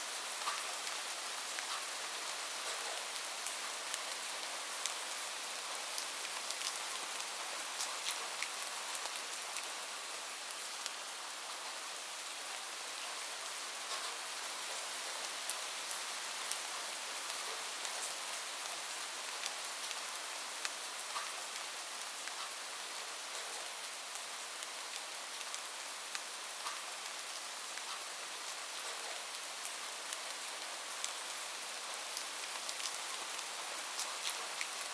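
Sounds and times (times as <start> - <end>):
light rain falling: 0.0 - 34.9
raindrops ticking on a surface: 0.2 - 11.7, 13.8 - 34.9.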